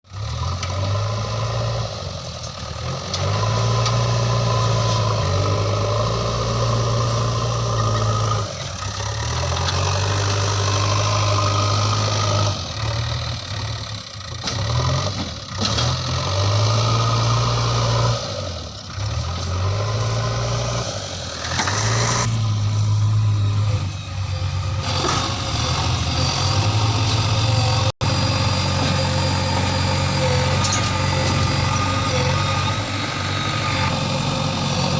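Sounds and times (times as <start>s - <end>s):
diesel digger engine under load: 0.1s - 34.9s.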